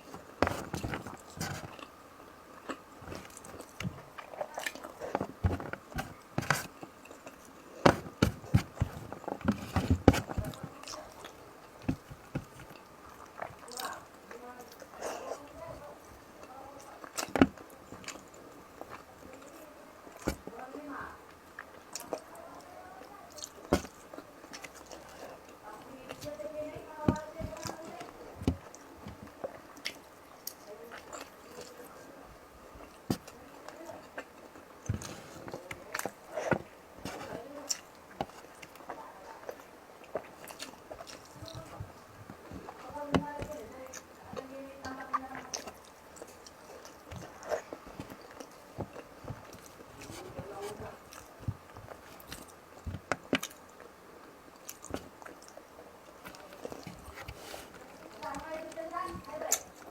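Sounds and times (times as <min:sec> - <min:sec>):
person chewing food: 0:00.0 - 0:22.7, 0:23.3 - 0:59.9.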